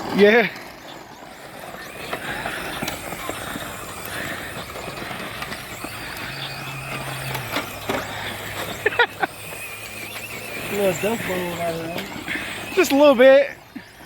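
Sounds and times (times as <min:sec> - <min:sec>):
electric motor whine: 0:00.0 - 0:14.0
tyres on loose ground: 0:00.0 - 0:14.0.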